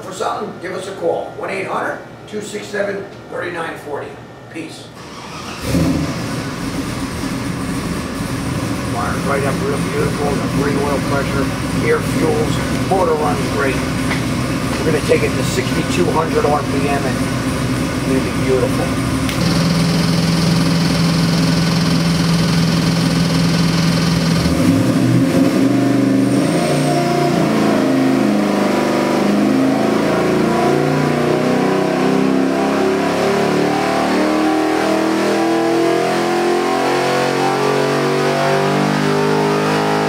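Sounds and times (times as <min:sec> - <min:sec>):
engine revving under load: 0:05.0 - 0:40.0.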